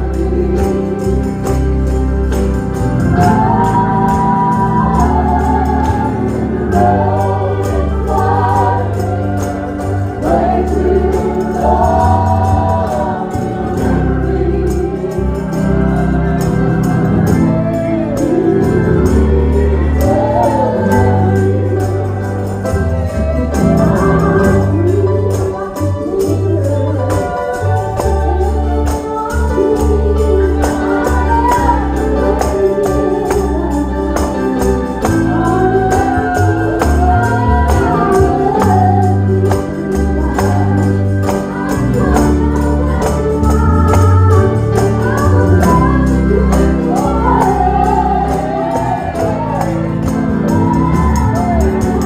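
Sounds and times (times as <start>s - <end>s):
choir singing gospel: 0.0s - 52.0s
keyboard with deep bass: 0.0s - 52.0s
steady percussion beat: 0.0s - 52.0s.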